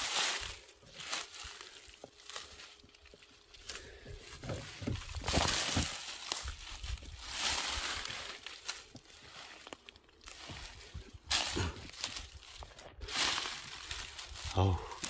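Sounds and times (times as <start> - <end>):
rustling of undergrowth: 0.0 - 15.0
twigs snapping: 0.2 - 15.0.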